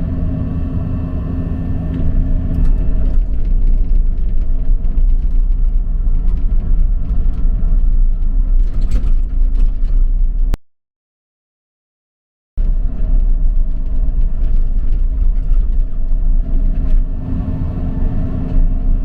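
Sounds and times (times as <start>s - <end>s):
excavator diesel engine rumble: 0.0s - 10.6s, 12.6s - 19.0s.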